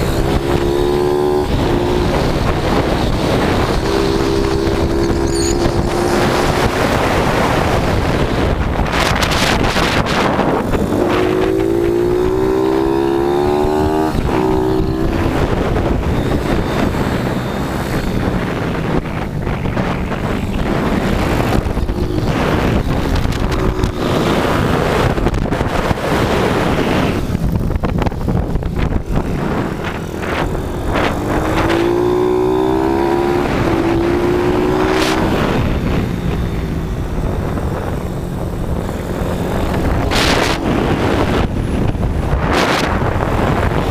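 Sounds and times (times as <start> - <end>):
motorbike engine revving: 0.0 - 43.9
wind rush on microphone: 0.0 - 43.9.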